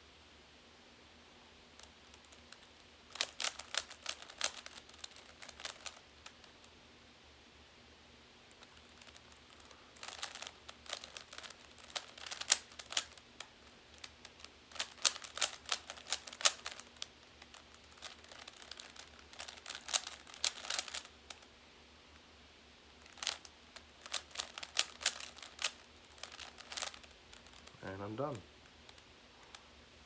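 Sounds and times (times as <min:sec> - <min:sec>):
puzzle cube plastic clicks: 0:01.8 - 0:06.7, 0:08.5 - 0:21.5, 0:23.0 - 0:29.6.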